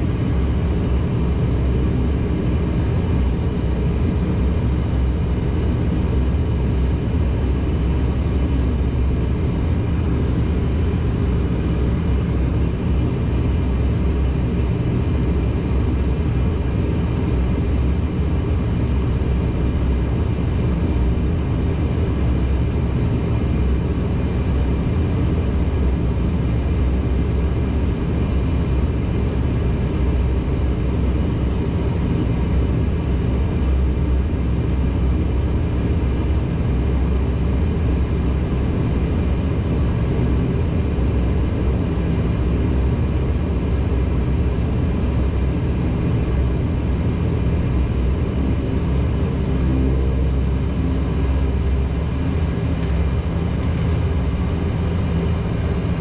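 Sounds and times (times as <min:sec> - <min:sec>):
turboprop engines droning in cabin: 0:00.0 - 0:56.0.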